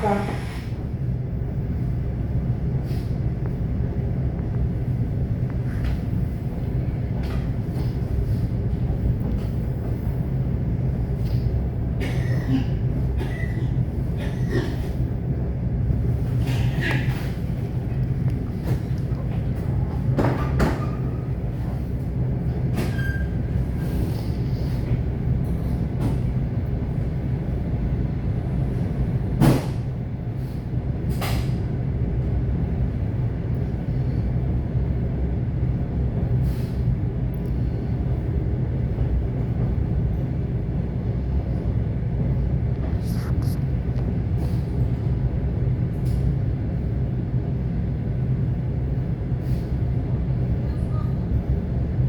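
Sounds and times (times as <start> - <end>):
train rumble from inside carriage: 0.0 - 52.0.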